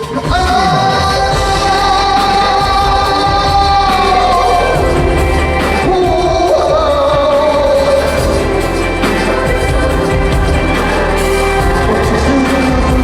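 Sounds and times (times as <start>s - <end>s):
backing track with heavy bass: 0.0s - 13.0s
person singing long notes: 0.0s - 13.0s.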